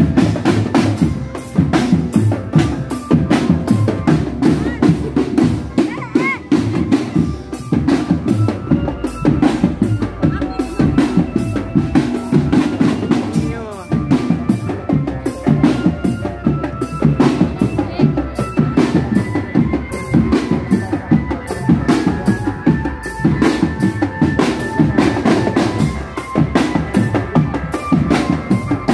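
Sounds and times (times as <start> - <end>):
bass drums: 0.0 - 28.9
held-note melody: 0.0 - 28.9
snare drums: 0.0 - 28.9.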